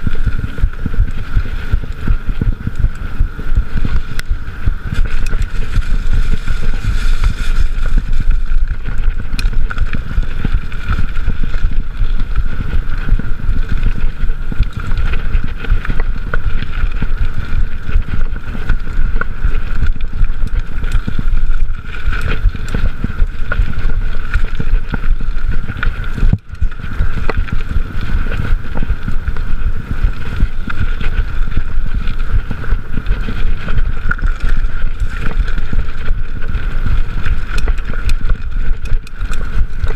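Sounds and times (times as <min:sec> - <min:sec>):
bike tyres and frame rattling: 0:00.0 - 0:39.9
steady high whine: 0:00.0 - 0:39.9
wind buffeting microphone: 0:00.0 - 0:39.9.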